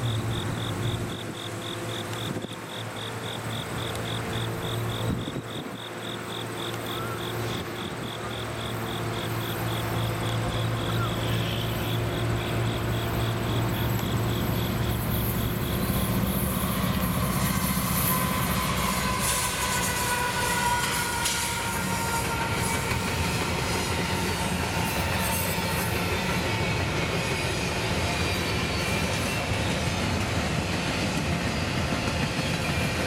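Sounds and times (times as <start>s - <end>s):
locomotive engine drone: 0.0s - 33.0s.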